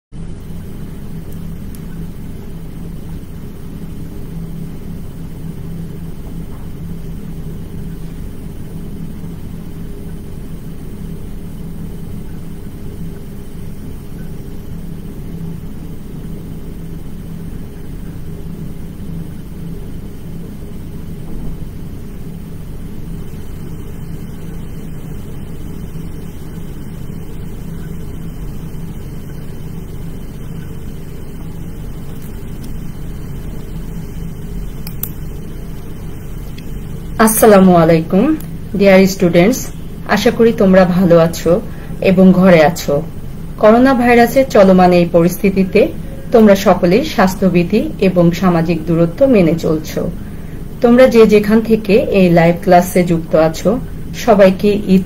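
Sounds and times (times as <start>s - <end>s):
low hum and rumble: 0.2s - 55.0s.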